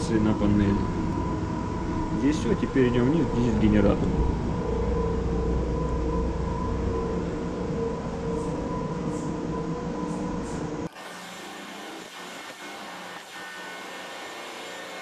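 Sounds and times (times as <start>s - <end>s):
engine room machinery drone: 0.0s - 15.0s.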